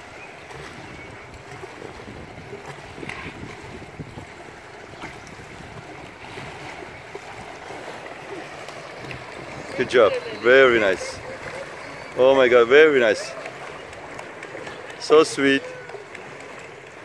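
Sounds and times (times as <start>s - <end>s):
pool water splashing and churning: 0.0s - 17.0s.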